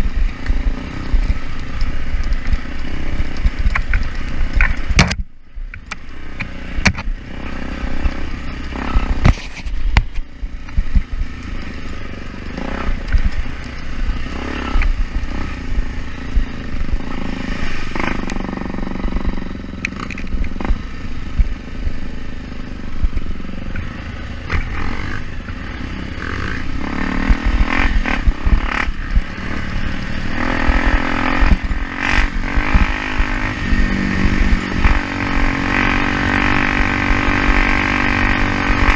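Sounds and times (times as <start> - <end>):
motorcycle engine revving: 0.0 - 5.2, 5.8 - 38.9.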